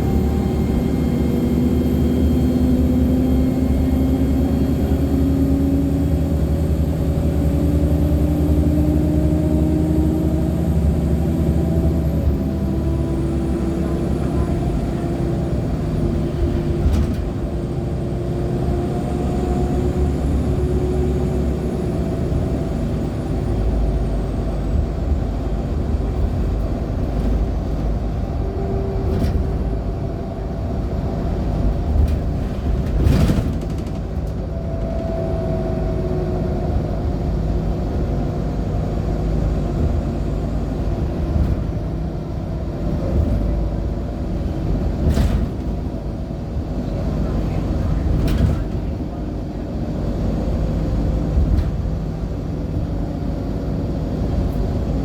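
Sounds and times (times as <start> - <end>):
bus engine low rumble: 0.0 - 55.0.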